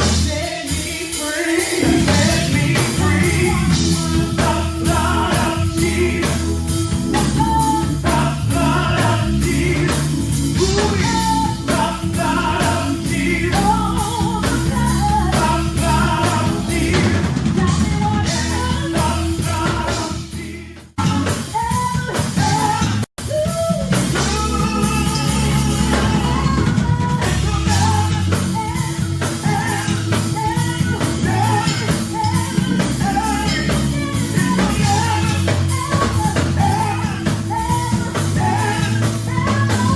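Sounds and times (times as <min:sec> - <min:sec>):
gospel singing with band: 0:00.0 - 0:39.9.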